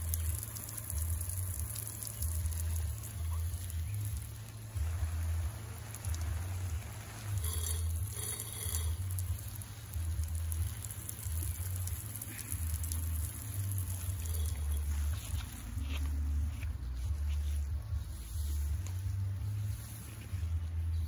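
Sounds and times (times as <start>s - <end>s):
hose spray pattering on plants: 0.0s - 21.0s
low uneven rumble: 0.0s - 21.0s.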